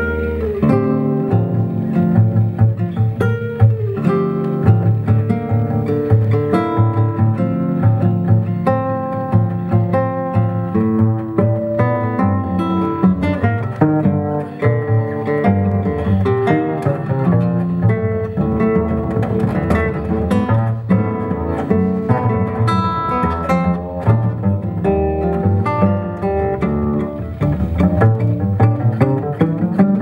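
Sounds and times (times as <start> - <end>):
acoustic guitar playing: 0.0 - 30.0
plucked double bass: 0.0 - 30.0.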